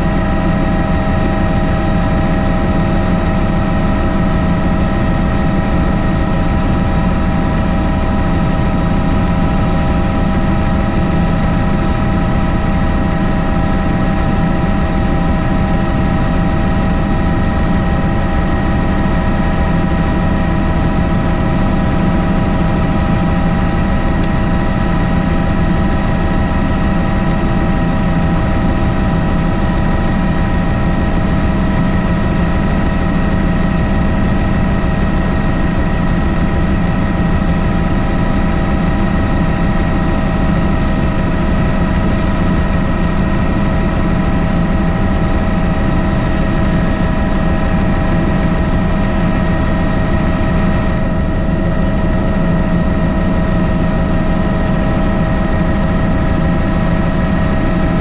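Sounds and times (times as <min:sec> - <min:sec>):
helicopter rotor drone: 0:00.0 - 0:58.0
turbine and gearbox whine: 0:00.0 - 0:58.0.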